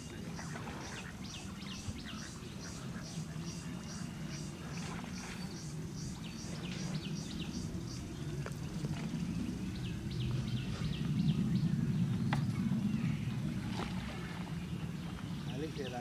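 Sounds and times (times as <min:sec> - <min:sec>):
small birds chirping: 0:00.0 - 0:16.0
steady low noise: 0:00.0 - 0:16.0.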